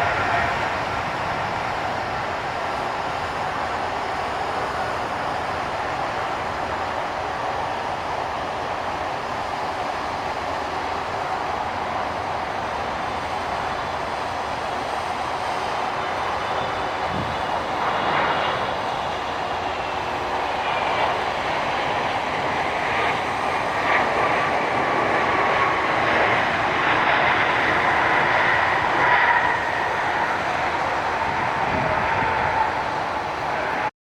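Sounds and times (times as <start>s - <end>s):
jet engine rushing: 0.0s - 33.9s.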